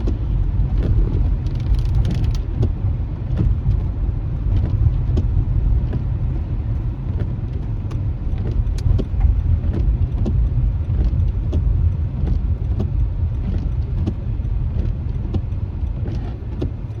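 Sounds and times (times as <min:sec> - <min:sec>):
car road rumble inside cabin: 0:00.0 - 0:17.0
raindrops ticking on windshield: 0:00.0 - 0:17.0.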